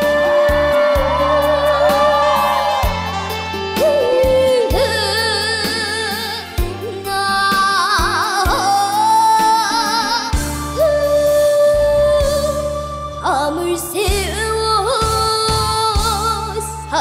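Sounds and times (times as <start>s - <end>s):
band accompaniment: 0.0s - 17.0s
girl singing a ballad: 0.0s - 17.0s.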